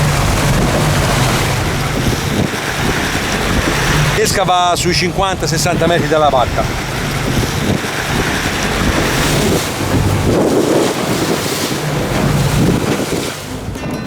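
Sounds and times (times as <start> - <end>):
low engine hum: 0.0 - 14.0
water washing along a boat hull: 0.0 - 14.0
wind buffeting the microphone: 0.0 - 14.0.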